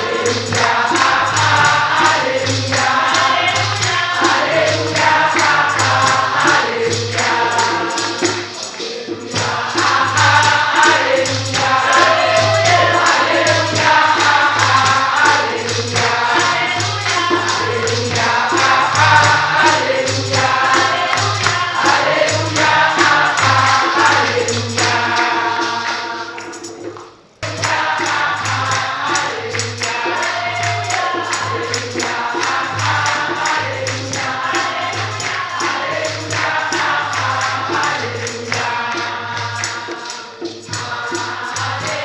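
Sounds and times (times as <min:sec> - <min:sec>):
congregation singing gospel song: 0:00.0 - 0:42.0
hand drum pulses: 0:00.0 - 0:42.0
people clapping: 0:00.0 - 0:42.0
tambourines jingling: 0:00.0 - 0:42.0.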